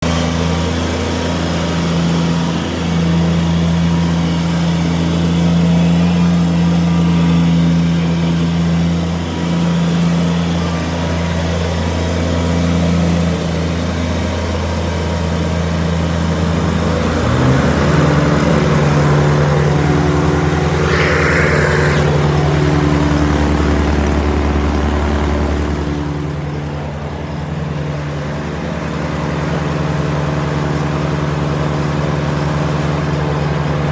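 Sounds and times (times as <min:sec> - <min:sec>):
lawnmower diesel engine running: 0:00.0 - 0:33.9.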